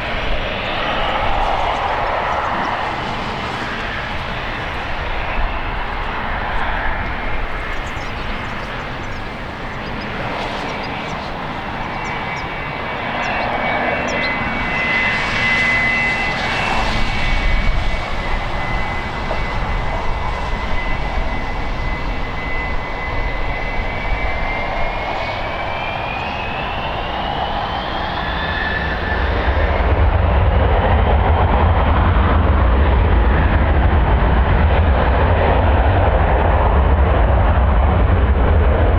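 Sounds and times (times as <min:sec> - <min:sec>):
jet engines whining: 0:00.0 - 0:38.9
wind noise on microphone: 0:00.0 - 0:38.9.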